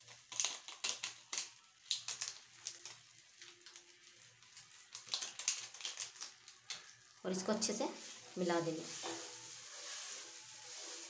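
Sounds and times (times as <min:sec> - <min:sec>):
foil sachet crinkling: 0:00.0 - 0:11.0
seasoning powder falling: 0:00.0 - 0:11.0.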